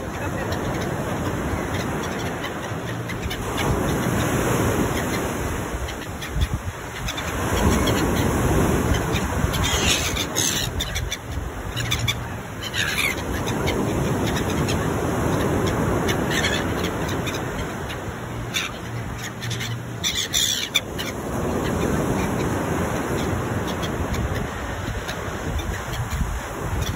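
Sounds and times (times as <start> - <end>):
gulls squawking: 0.0 - 26.9.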